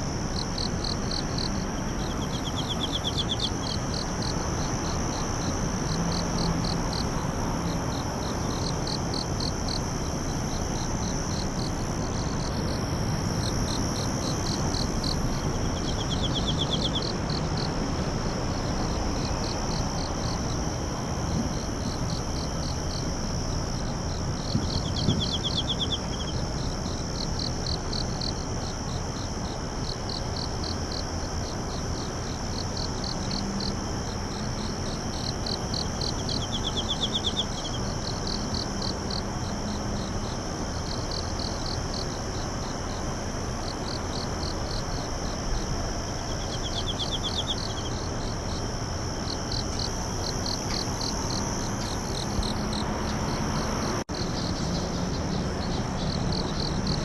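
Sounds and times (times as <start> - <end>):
crickets trilling: 0.0 - 57.0
insect buzzing trills: 0.0 - 57.0.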